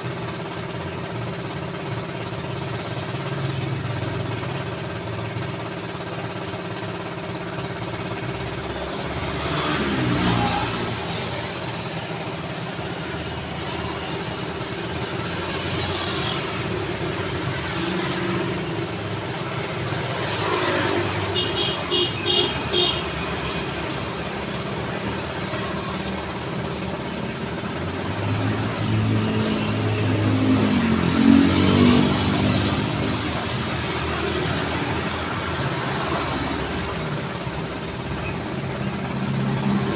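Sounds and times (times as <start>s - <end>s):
cars passing on road: 6.3s - 39.9s.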